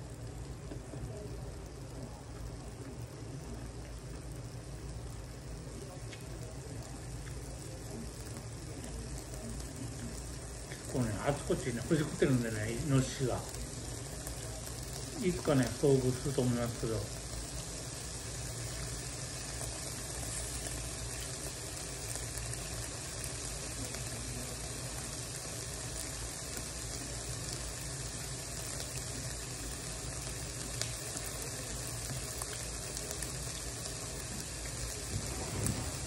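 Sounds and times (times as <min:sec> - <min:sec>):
low steady hum: 0:00.0 - 0:36.0
meat sizzling on a grill: 0:00.0 - 0:36.0.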